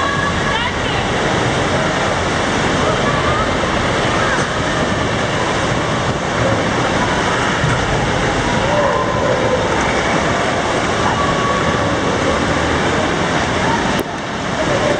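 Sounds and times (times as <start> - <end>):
boat engine and rushing water: 0.0 - 14.9
faint voices: 0.0 - 14.9.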